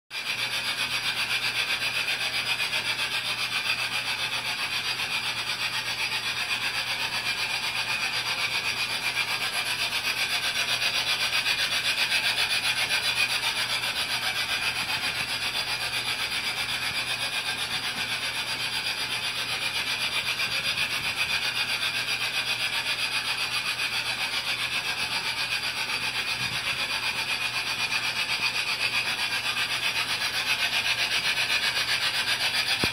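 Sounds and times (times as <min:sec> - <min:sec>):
model trains rasping on track: 0:00.1 - 0:32.9.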